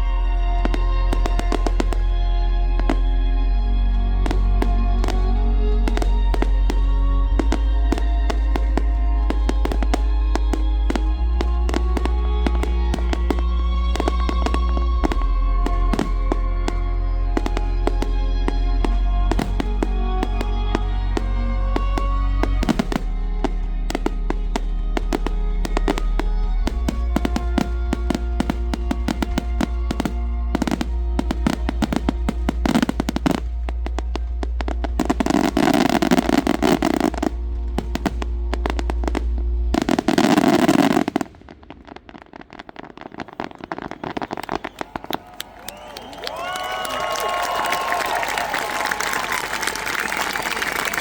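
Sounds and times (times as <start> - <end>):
crowd cheering: 0.0 - 38.5, 42.9 - 51.0
firework bursts and crackles: 0.0 - 51.0
music soundtrack: 0.0 - 51.0.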